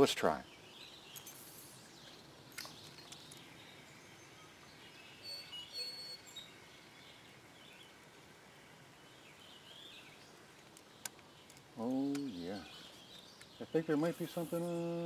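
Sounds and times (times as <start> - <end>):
faint songbird chirps: 0.0 - 15.0
low outdoor background: 0.0 - 15.0.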